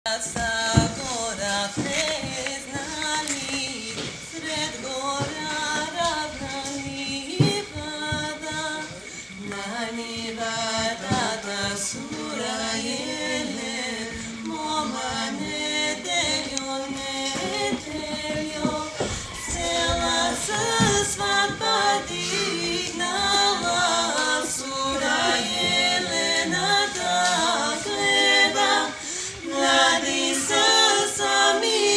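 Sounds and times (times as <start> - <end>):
vocal trio singing in harmony: 0.1 - 31.9.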